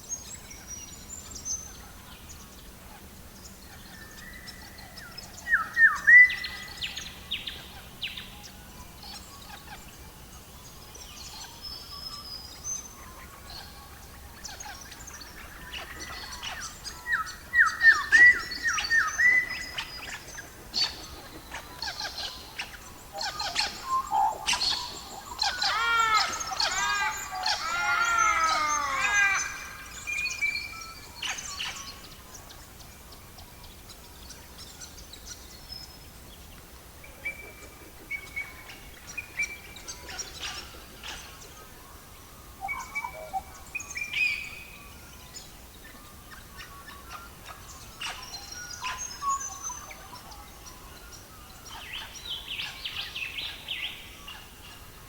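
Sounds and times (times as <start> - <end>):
birds chirping and singing: 0.1 - 55.0.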